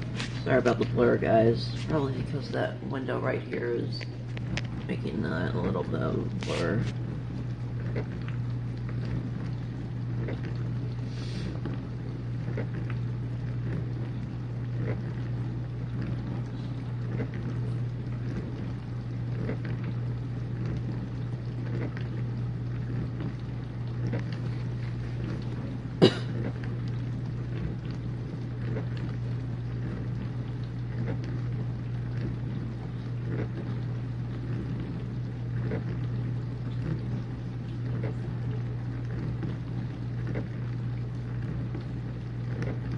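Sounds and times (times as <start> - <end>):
dishwasher pump humming: 0.0 - 42.9
water swishing: 0.0 - 42.9.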